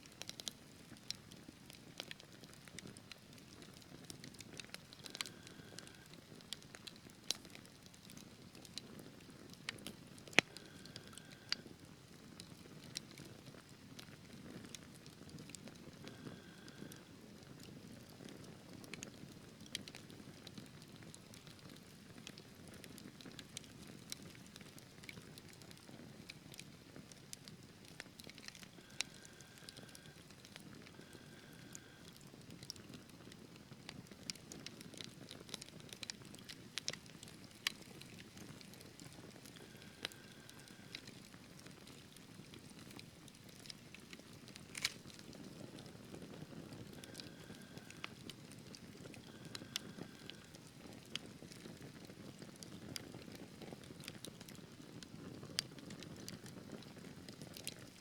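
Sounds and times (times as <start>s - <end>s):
wood fire burning: 0.0s - 58.0s.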